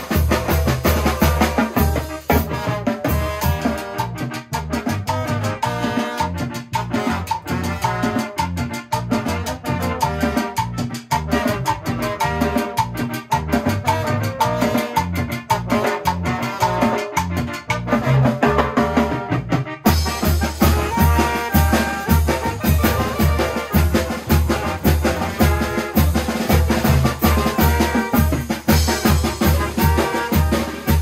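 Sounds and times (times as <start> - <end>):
brass band playing dance beat: 0.0 - 31.0.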